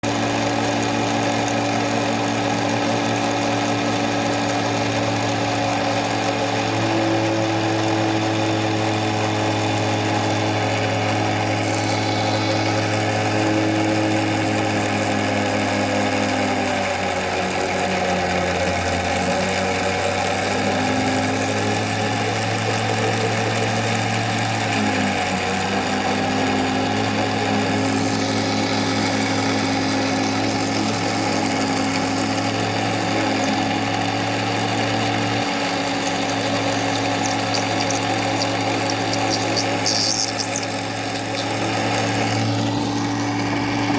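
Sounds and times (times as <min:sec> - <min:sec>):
electric drill drilling wood: 0:00.0 - 0:43.9.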